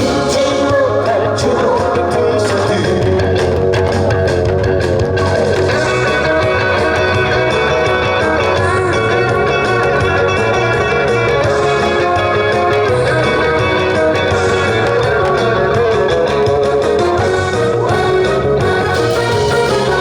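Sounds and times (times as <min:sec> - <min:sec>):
upbeat instrumental song with guitar: 0:00.0 - 0:20.0.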